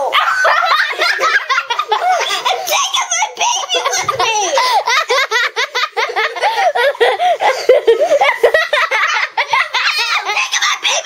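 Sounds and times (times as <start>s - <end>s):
children laughing and giggling: 0.0s - 11.0s.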